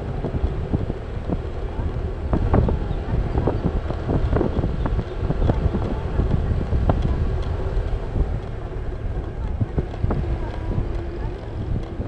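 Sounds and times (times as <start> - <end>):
motorcycle engine hum: 0.0 - 12.0
wind buffeting microphone: 0.0 - 12.0.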